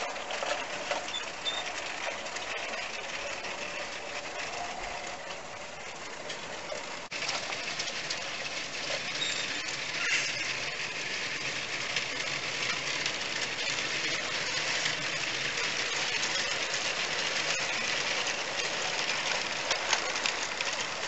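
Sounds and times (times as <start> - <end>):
model train motor whirring: 0.0 - 21.0
wheels rolling over rails: 0.0 - 21.0.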